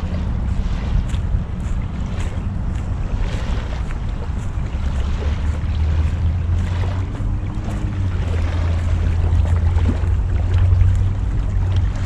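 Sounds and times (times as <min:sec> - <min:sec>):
water washing against rocky shore: 0:00.0 - 0:12.0
wind rumble on microphone: 0:00.0 - 0:12.0.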